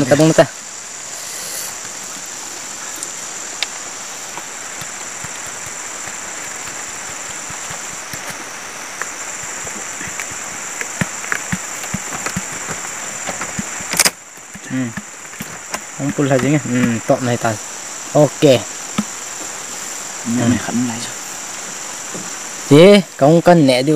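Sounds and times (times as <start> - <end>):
insects droning: 0.0 - 23.9
rushing hiss: 0.0 - 23.9.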